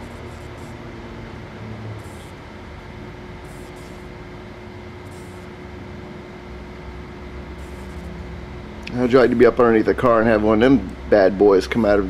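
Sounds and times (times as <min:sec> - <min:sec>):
mechanical hum and whine: 0:00.0 - 0:12.0.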